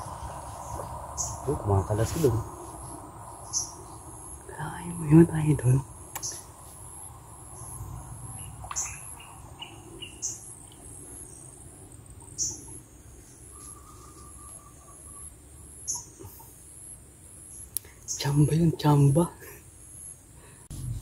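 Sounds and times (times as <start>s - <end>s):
birds chirping: 0.0s - 20.7s.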